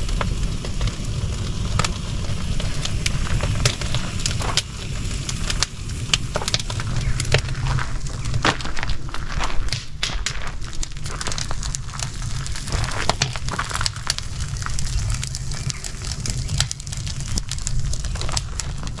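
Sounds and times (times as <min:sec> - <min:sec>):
cooking crackling and popping: 0:00.0 - 0:19.0
steady low rumble: 0:00.0 - 0:19.0.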